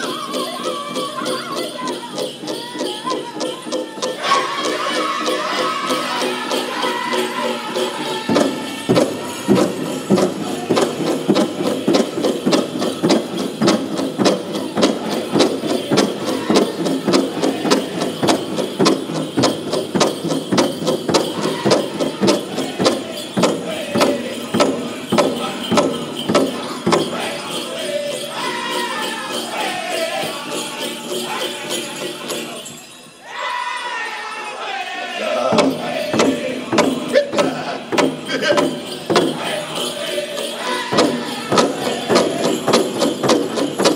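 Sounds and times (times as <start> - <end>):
big drum beating fast: 0.0 - 32.5, 35.3 - 43.9
bells jingling: 0.0 - 43.9
group singing: 0.0 - 43.9.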